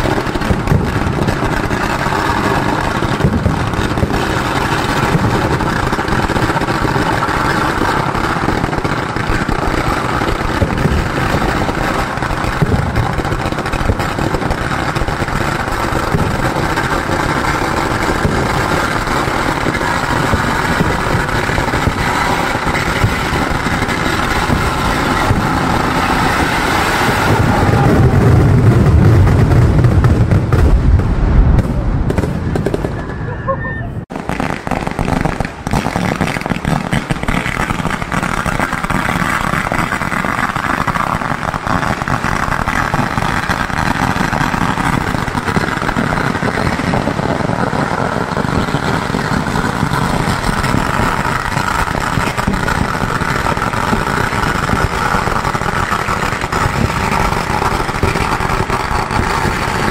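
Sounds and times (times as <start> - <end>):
firecrackers crackling: 0.0 - 59.9.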